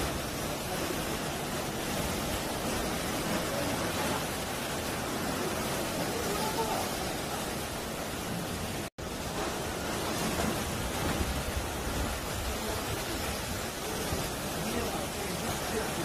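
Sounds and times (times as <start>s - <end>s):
waves breaking on rocky shore: 0.0s - 16.0s.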